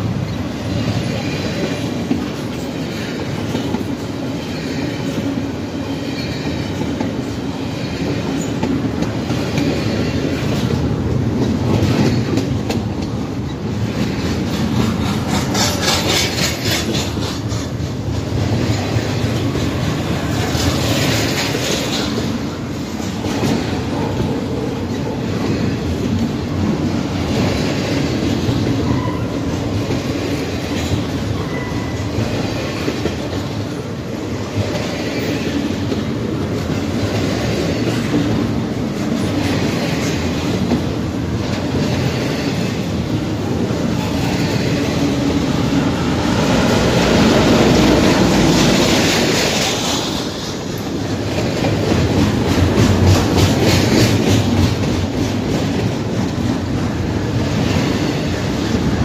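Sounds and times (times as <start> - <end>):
freight train heavy rumble: 0.0 - 59.0
steel wheels clattering over rails: 0.0 - 59.0.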